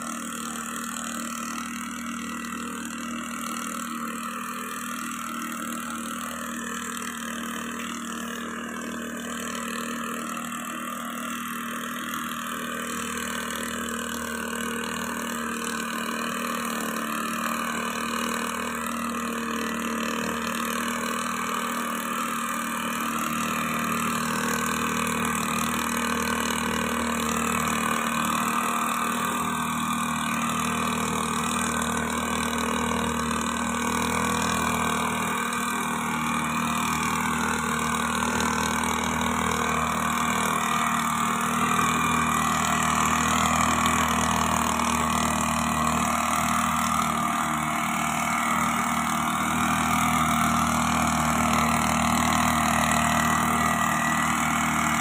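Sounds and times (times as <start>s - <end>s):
power blower engine running: 0.0s - 55.0s.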